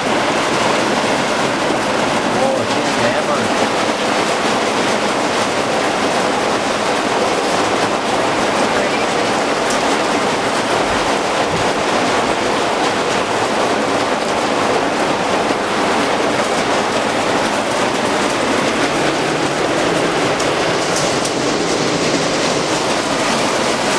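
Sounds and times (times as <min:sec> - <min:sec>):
heavy rain with hail: 0:00.0 - 0:23.9.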